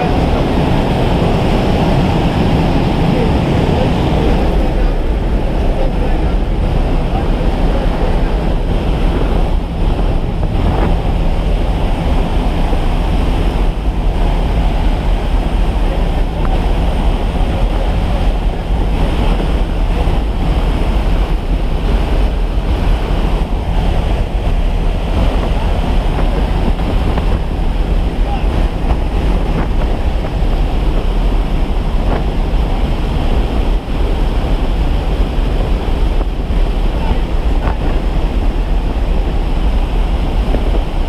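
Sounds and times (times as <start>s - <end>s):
low steady drone: 0.0s - 41.0s
wind buffeting microphone: 0.0s - 41.0s.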